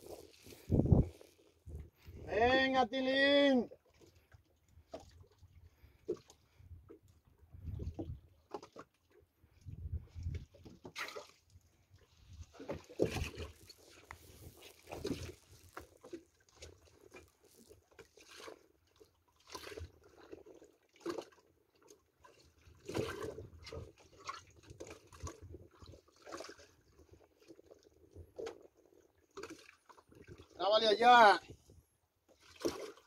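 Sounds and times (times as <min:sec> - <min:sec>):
water lapping against boat hull: 0:00.0 - 0:33.0.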